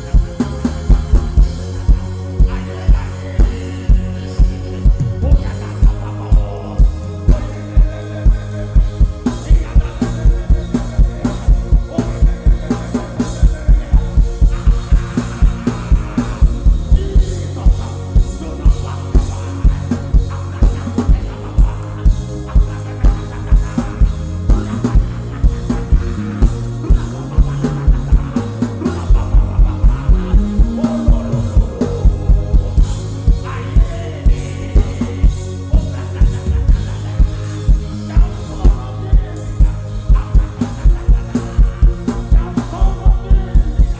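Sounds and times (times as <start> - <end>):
live band worship music: 0.0 - 43.9
steady drum beat: 0.0 - 43.9
sustained bass notes: 0.0 - 43.9.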